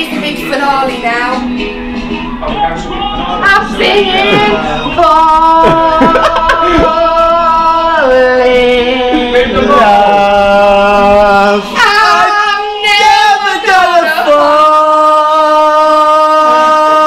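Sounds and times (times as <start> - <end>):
woman singing karaoke: 0.0 - 1.6, 3.4 - 17.0.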